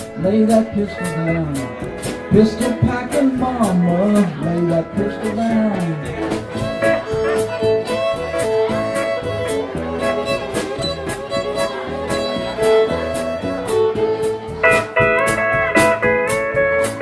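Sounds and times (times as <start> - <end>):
fiddle: 0.0 - 17.0
steel guitar sliding notes: 0.0 - 17.0
western swing band playing: 0.0 - 17.0.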